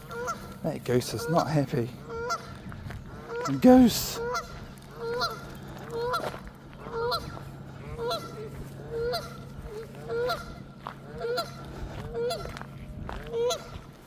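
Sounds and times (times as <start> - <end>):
goose honking: 0.0 - 14.0.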